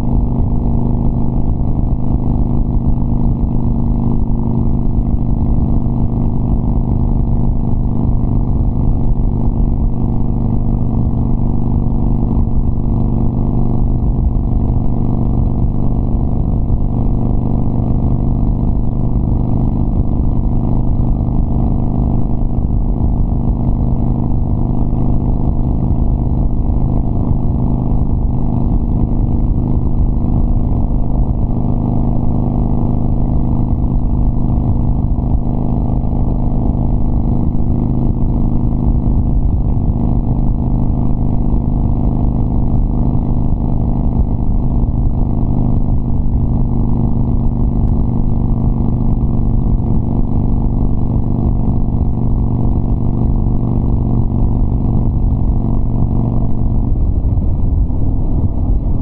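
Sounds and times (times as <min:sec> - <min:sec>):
motorcycle exhaust at steady speed: 0:00.0 - 0:59.0.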